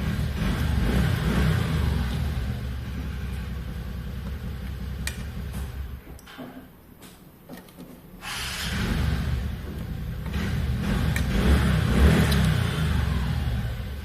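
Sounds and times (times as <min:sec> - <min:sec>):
small engine rumbling: 0:00.0 - 0:06.1, 0:08.3 - 0:14.0.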